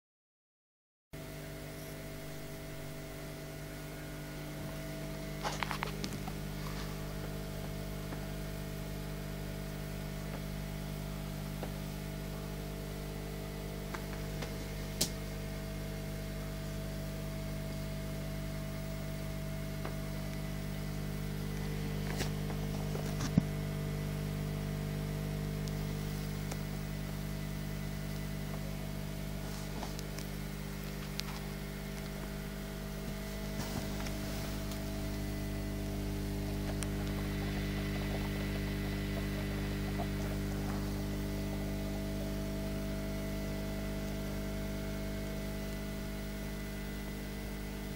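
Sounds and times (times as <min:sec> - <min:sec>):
aquarium pump humming: 0:01.2 - 0:47.9.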